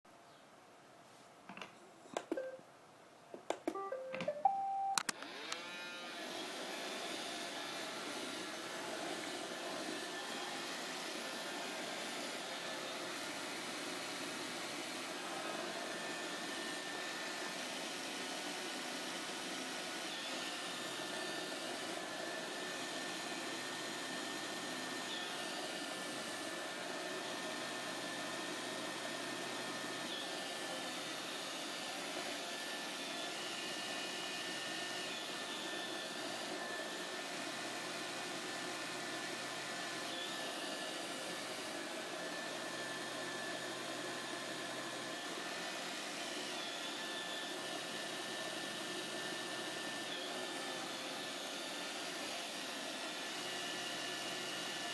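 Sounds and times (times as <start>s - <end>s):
robot vacuum whirring: 5.0s - 54.9s.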